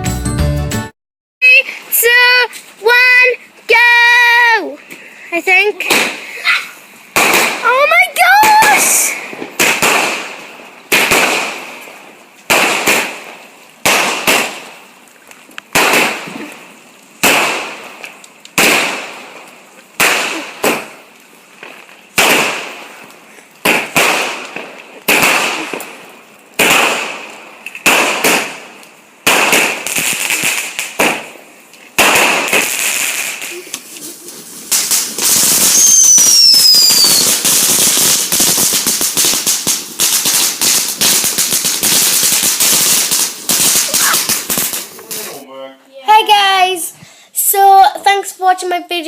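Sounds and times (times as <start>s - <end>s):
fireworks bangs with crackle: 1.8s - 45.4s.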